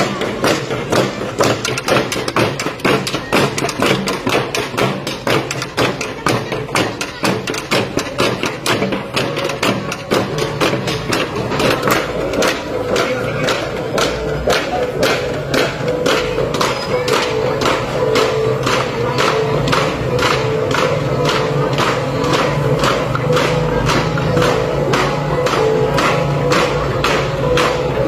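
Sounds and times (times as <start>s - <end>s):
sticks clattering on bamboo and wood: 0.0s - 28.0s.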